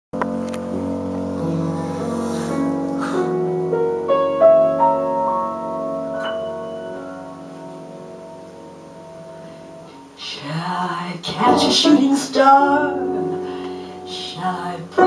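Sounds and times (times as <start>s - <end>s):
grand piano playing slow chords: 0.2s - 15.0s.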